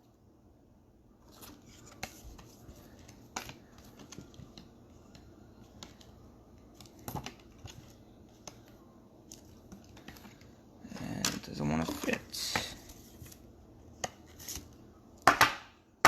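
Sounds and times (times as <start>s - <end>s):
trading cards rustling: 1.2s - 14.7s.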